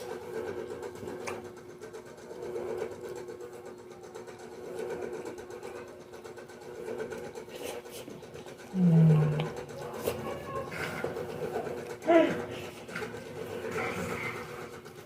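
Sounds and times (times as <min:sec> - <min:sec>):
electric motor whirring hum: 0:00.0 - 0:15.0.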